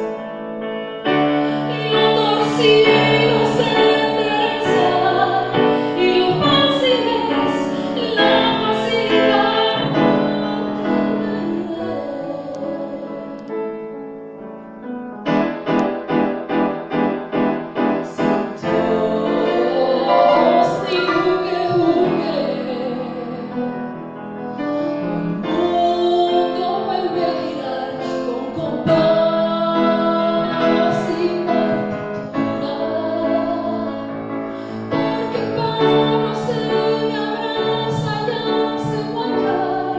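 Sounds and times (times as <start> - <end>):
piano accompaniment: 0.0 - 39.9
woman singing: 1.4 - 13.6, 18.0 - 24.0, 25.2 - 39.9.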